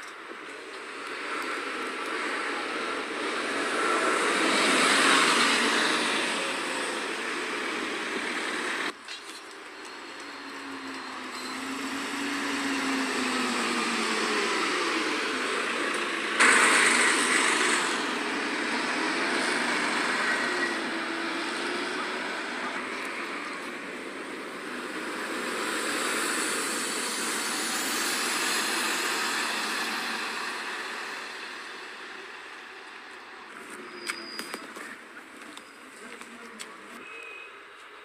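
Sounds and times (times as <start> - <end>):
bus engine: 0.0 - 38.0
bus driving past: 0.1 - 38.0.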